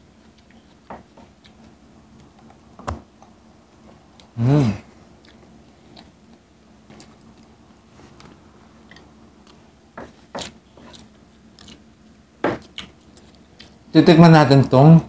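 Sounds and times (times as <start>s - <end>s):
people chewing: 0.0s - 13.9s.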